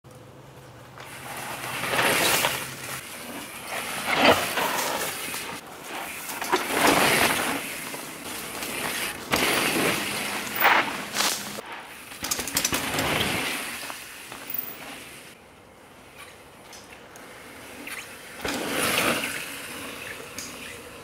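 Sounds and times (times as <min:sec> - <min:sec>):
bike tyres crunching over dirt trail: 0:00.1 - 0:21.0.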